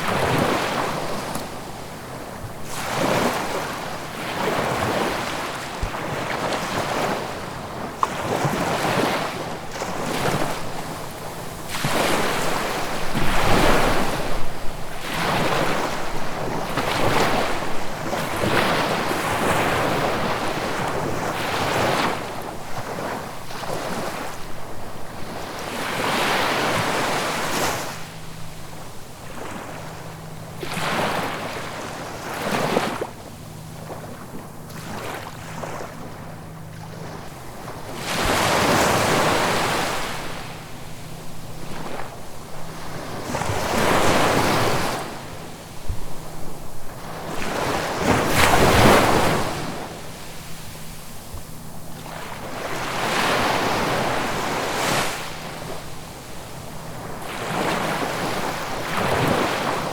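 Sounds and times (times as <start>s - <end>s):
ocean surf breaking on shore: 0.0s - 59.9s.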